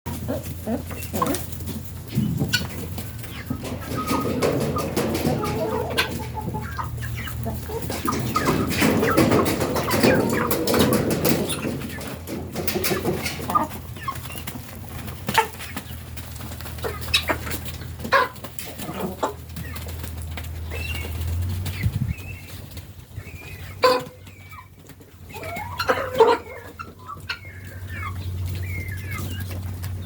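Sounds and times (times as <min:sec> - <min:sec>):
chickens clucking: 0:00.1 - 0:30.0.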